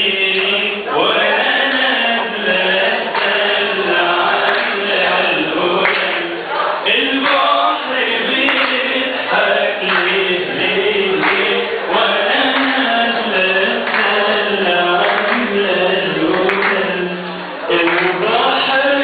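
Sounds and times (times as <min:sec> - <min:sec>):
voices singing a chant: 0:00.0 - 0:19.0.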